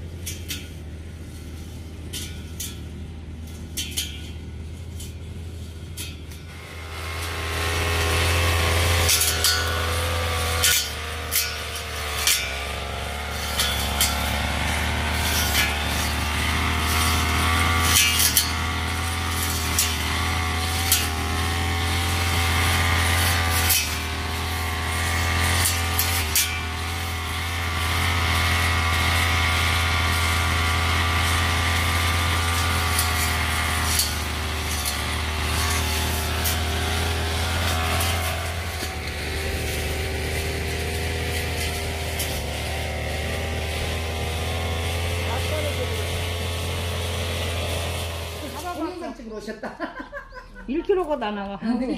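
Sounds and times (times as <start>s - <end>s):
blade cutting grass: 0.0s - 51.9s
brush cutter engine running: 0.0s - 51.9s.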